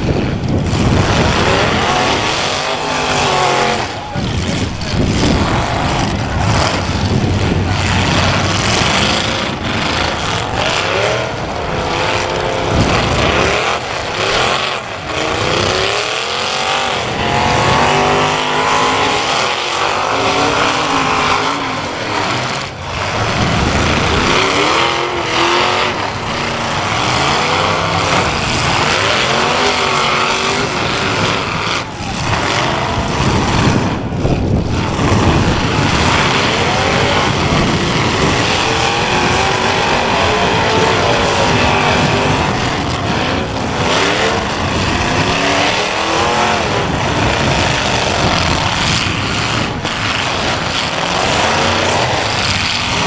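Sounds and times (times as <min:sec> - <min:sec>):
car engines revving hard: 0:00.0 - 0:53.0.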